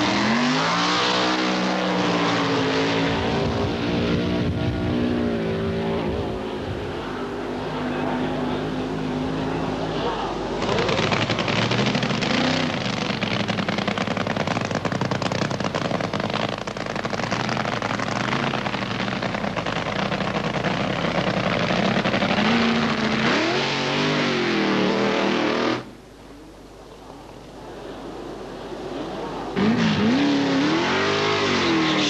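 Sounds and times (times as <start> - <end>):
racing car engine revving: 0.0 - 25.9, 28.9 - 32.0.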